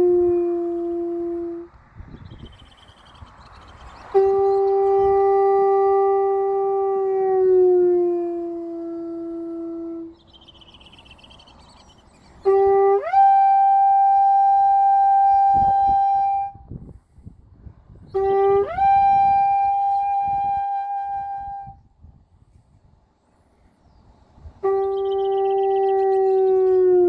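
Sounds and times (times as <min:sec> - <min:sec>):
conch shell horn blowing: 0:00.0 - 0:02.7, 0:04.0 - 0:17.0, 0:18.0 - 0:22.9, 0:24.4 - 0:27.0.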